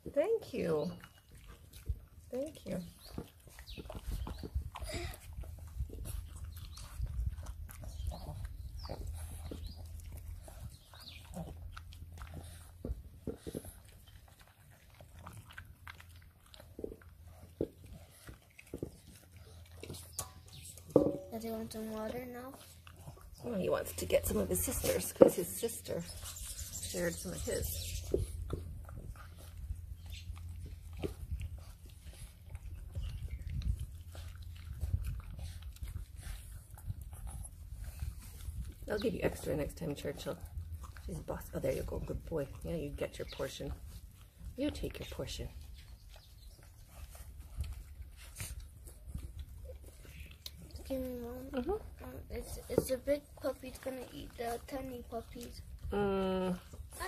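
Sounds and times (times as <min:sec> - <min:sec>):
puppy chewing wet food: 0:00.0 - 0:57.0.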